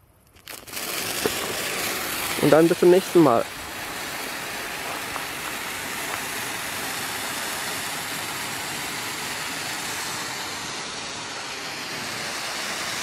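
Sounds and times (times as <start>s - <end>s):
flare burning with a hiss: 0.2s - 13.0s.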